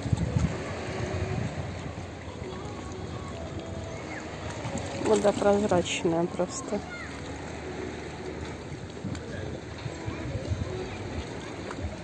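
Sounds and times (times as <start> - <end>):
wind buffeting microphone: 0.0 - 7.0, 8.4 - 12.0
seashore rush: 0.0 - 12.0.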